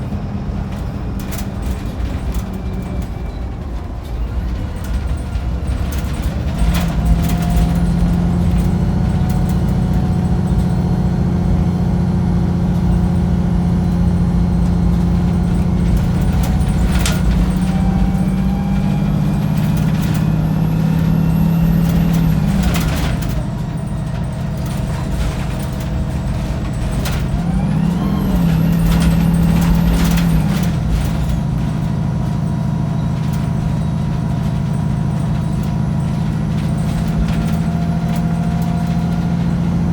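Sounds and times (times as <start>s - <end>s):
bus body rattles: 0.0s - 39.9s
bus diesel engine working hard: 0.0s - 39.9s.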